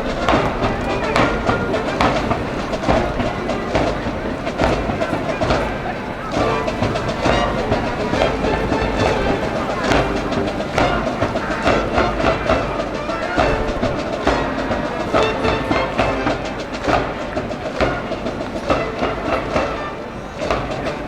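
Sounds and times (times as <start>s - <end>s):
brass band playing cheer song: 0.0s - 21.0s
steady drum beat: 0.0s - 21.0s.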